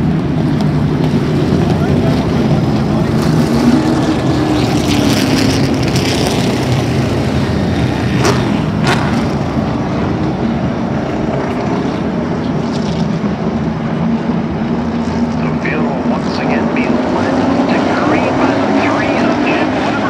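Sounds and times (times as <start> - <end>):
racing car engines droning: 0.0 - 20.0.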